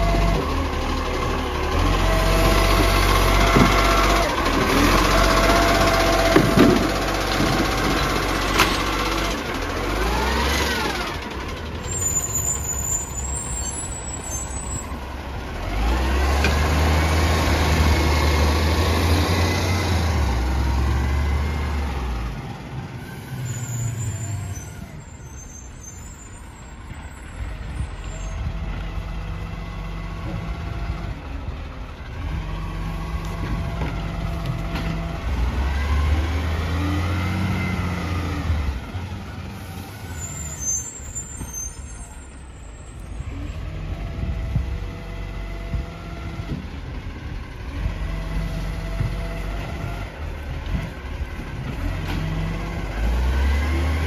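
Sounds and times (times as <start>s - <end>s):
garbage truck engine revving: 0.0s - 25.8s, 27.7s - 54.0s.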